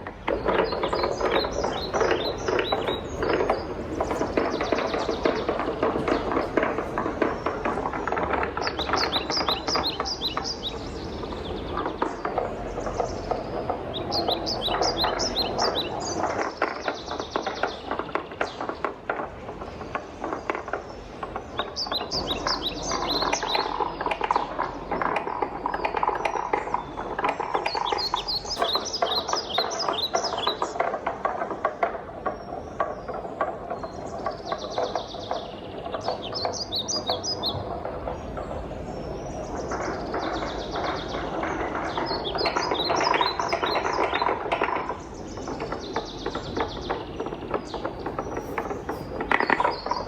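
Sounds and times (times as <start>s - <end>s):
wooden balls clacking down a track: 0.0s - 50.0s.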